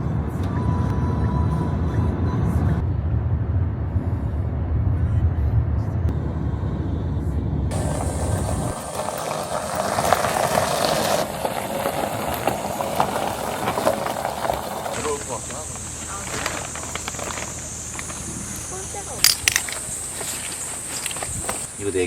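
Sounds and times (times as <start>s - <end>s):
low rumble of moving vehicle: 0.0s - 22.0s.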